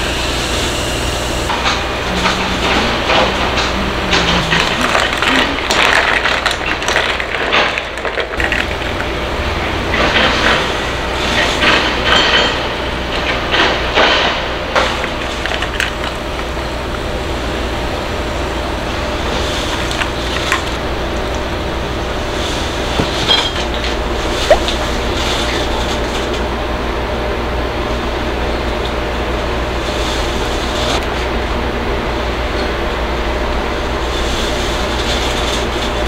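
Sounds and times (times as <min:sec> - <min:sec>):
low rumbling hum: 0:00.0 - 0:34.3.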